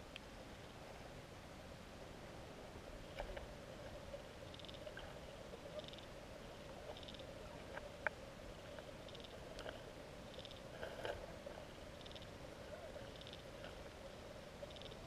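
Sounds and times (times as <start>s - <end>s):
underwater hiss and hum: 0.0s - 15.0s.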